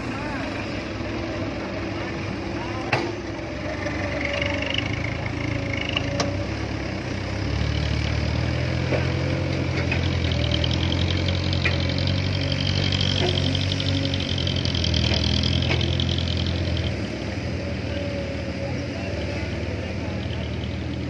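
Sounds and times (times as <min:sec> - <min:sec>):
dump truck diesel engine climbing: 0:00.0 - 0:21.0.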